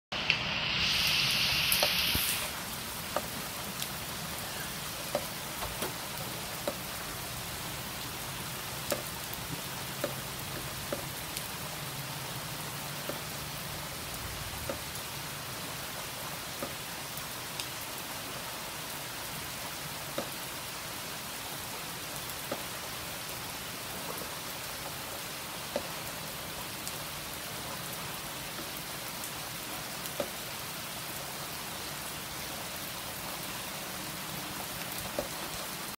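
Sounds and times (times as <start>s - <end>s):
rain hissing: 0.1s - 35.9s
raindrops ticking: 1.6s - 18.0s, 19.4s - 20.7s, 21.7s - 31.2s, 34.3s - 35.9s.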